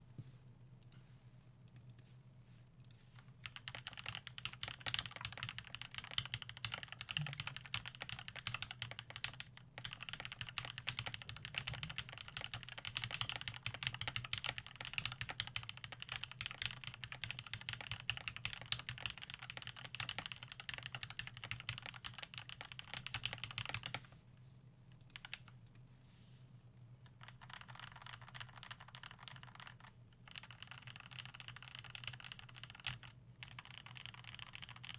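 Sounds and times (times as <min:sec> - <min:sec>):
low steady hum: 0:00.0 - 0:34.9
mechanical keyboard typing: 0:03.4 - 0:24.0, 0:25.0 - 0:25.8, 0:27.0 - 0:34.9.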